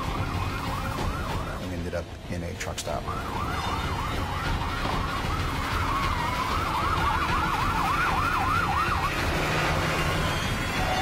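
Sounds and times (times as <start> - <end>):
police siren wailing and yelping: 0.0 - 1.7, 2.9 - 11.0
engine and road rumble: 0.0 - 11.0.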